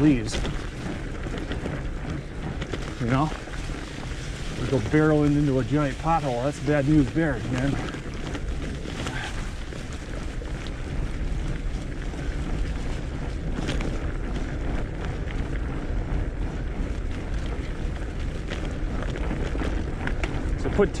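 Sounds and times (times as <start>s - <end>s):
bike clicks and rattles: 0.0s - 21.0s
bike tyres rolling over leaves: 0.0s - 21.0s
wind noise on microphone: 0.0s - 21.0s.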